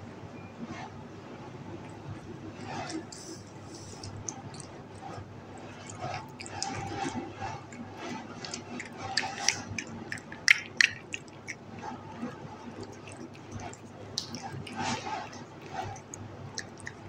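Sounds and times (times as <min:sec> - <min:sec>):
cat chewing and lapping: 0:01.6 - 0:17.0.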